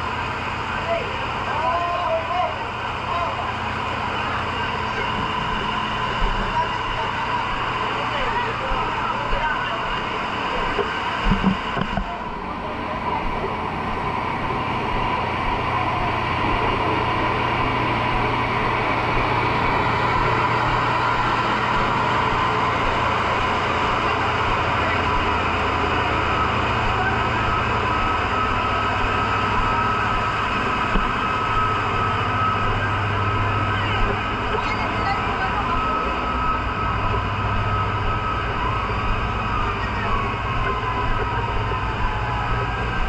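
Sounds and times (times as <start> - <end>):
street noise: 0.0 - 43.0
vehicle engine humming: 0.0 - 43.0.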